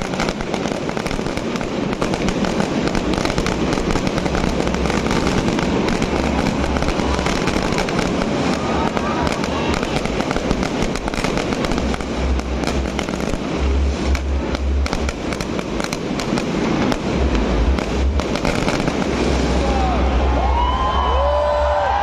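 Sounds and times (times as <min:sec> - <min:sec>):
continuous rumble: 0:00.0 - 0:22.0
fireworks bangs and crackles: 0:00.0 - 0:22.0.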